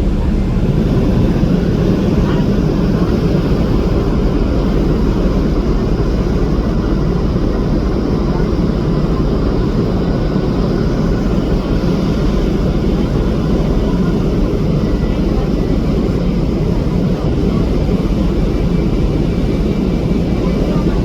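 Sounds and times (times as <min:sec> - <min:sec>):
ferry engine rumble: 0:00.0 - 0:21.0.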